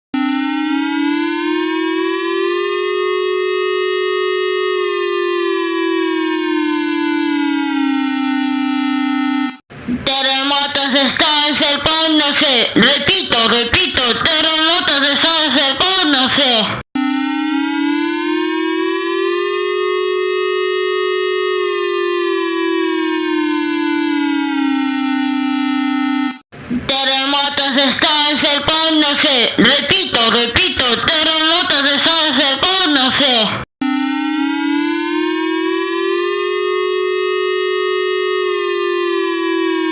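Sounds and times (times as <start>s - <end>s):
warning siren rising and falling: 0.1s - 39.9s.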